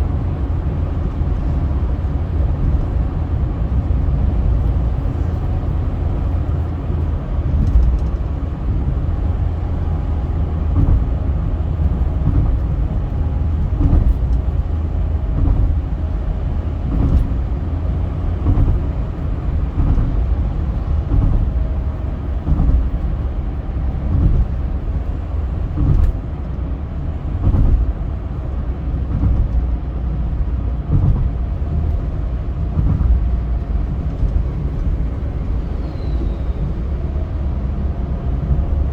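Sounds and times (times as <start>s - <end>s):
car road noise rumble: 0.0s - 38.9s.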